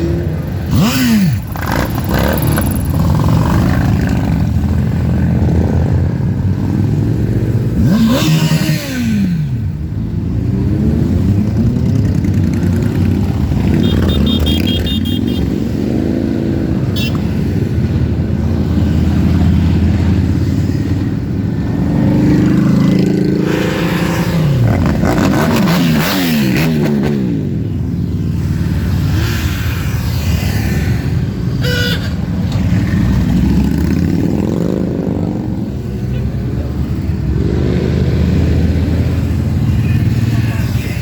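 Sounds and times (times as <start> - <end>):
motorcycle engines revving: 0.0 - 41.0.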